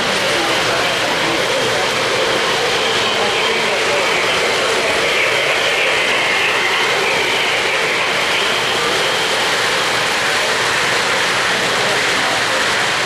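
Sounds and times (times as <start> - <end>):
model train rattling on rails: 0.0 - 13.0.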